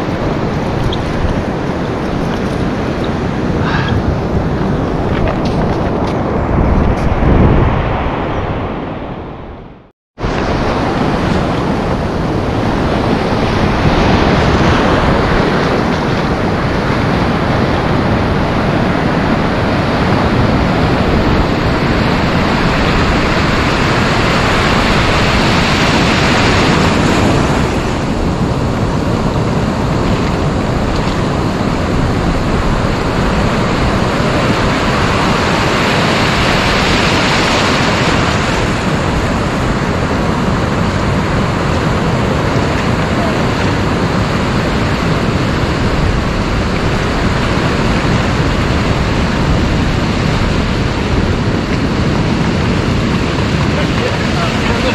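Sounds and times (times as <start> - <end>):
ocean surf washing in: 0.0 - 54.9.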